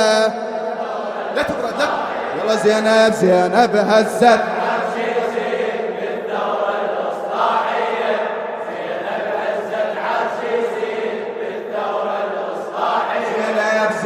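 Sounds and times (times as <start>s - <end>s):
male chorus chanting: 0.0s - 14.0s.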